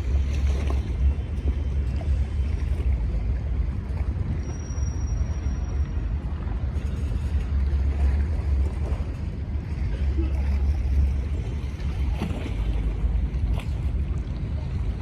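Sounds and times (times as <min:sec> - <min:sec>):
low rumble: 0:00.0 - 0:15.0
waterfront noise: 0:00.0 - 0:15.0.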